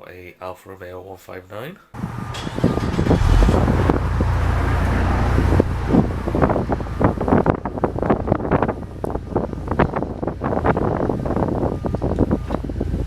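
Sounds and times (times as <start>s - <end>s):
vehicle rumble: 2.0s - 13.0s
wind buffeting microphone: 2.0s - 13.0s.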